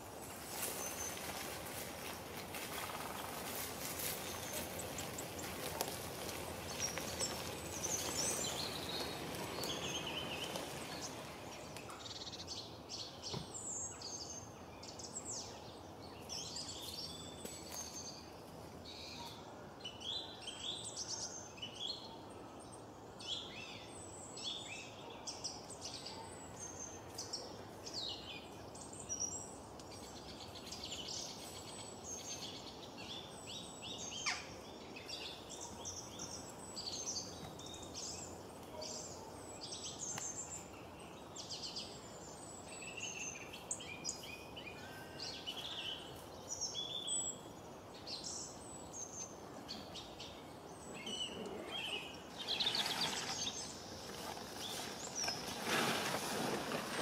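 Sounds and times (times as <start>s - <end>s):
birds chirping: 0.2s - 19.4s, 26.1s - 57.0s.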